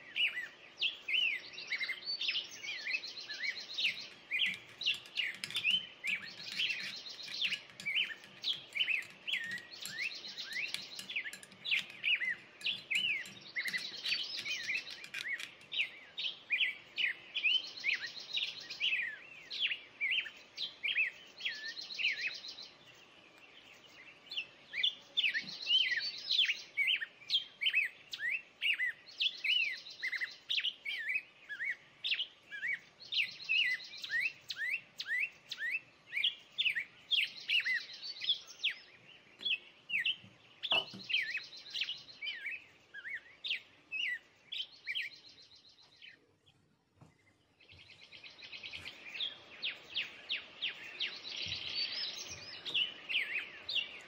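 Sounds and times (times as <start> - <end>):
birds chirping with buzzy trill: 0.0 - 54.0.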